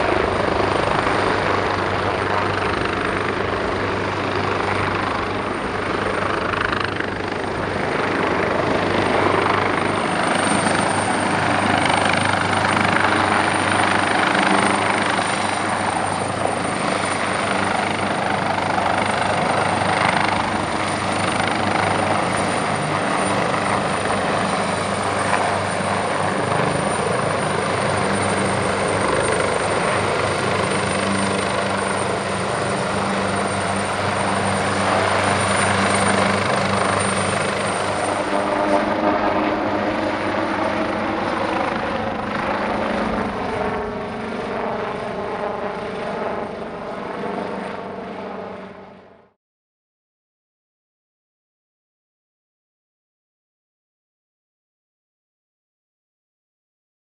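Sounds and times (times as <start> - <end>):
helicopter rotor and engine noise: 0.0 - 49.4.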